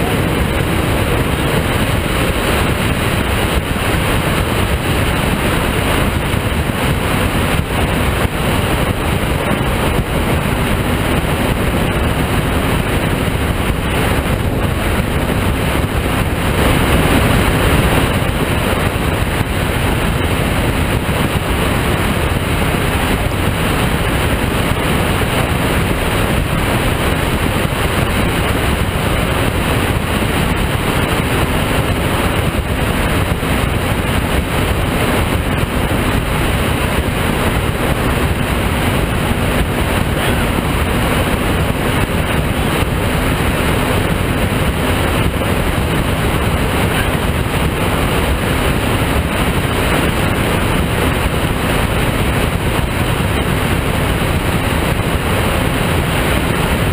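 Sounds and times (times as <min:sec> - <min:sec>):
boat engine noise: 0:00.0 - 0:56.9
water against hull: 0:00.0 - 0:56.9
wind rushing across microphone: 0:00.0 - 0:56.9.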